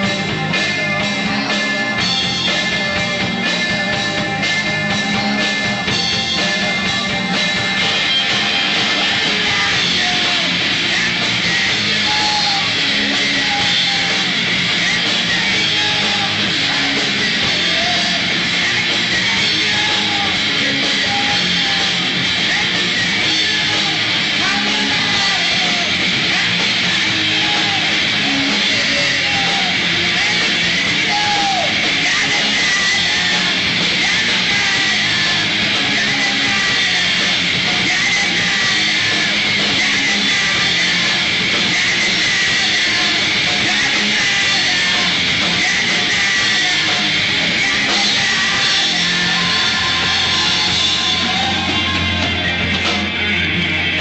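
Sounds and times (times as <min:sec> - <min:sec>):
distorted electric guitar: 0:00.0 - 0:54.0
live heavy rock band: 0:00.0 - 0:54.0.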